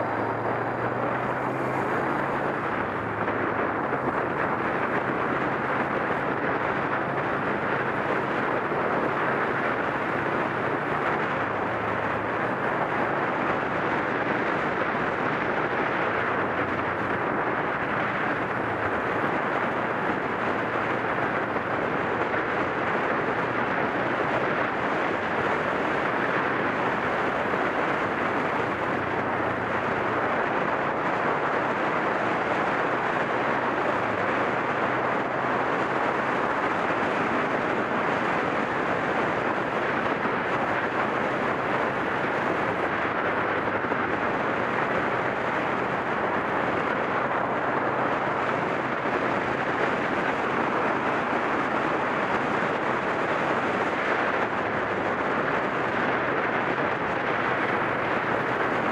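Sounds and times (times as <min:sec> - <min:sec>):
motorcycle engine droning: 0:00.0 - 0:58.9
wind rushing over microphone: 0:00.0 - 0:58.9.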